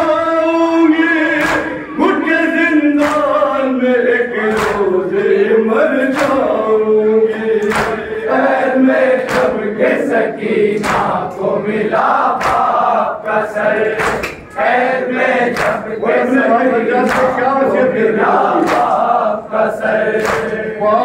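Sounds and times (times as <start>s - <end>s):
group of men chanting: 0.0s - 21.0s
sharp slaps keeping the beat: 0.9s - 16.0s, 16.9s - 17.5s, 18.3s - 20.8s.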